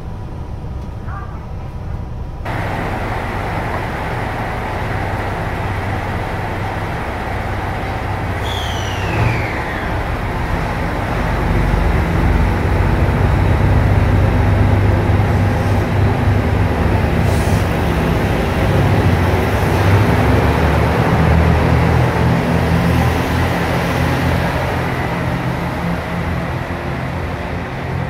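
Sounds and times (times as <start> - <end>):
diesel train engines: 0.0 - 28.0
falling whine: 2.5 - 28.0.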